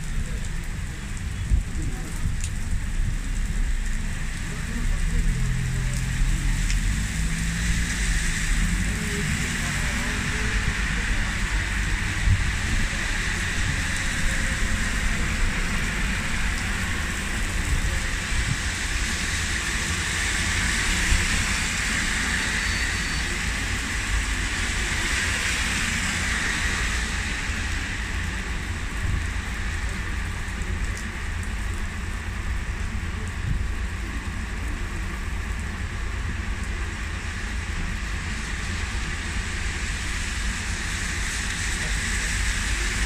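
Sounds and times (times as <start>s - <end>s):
heavy rain splashing on road: 0.0s - 43.0s
traffic on wet road: 0.0s - 43.0s.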